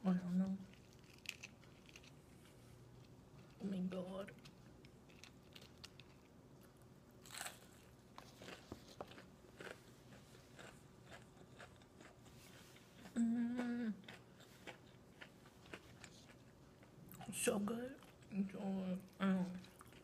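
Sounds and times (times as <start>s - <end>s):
person chewing crunchy food: 0.7s - 3.6s, 4.3s - 17.3s, 19.6s - 20.0s.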